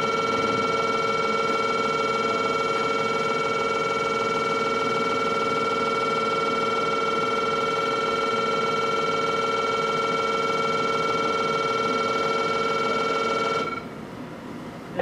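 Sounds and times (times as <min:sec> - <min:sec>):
harsh electric buzzer: 0:00.0 - 0:13.8.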